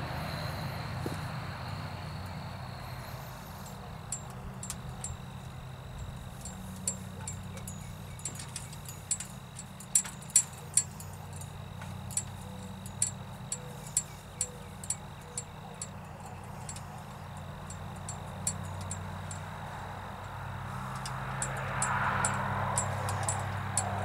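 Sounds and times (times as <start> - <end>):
steady low hum: 0.0 - 24.0
sharp clicks and ticks: 3.6 - 24.0.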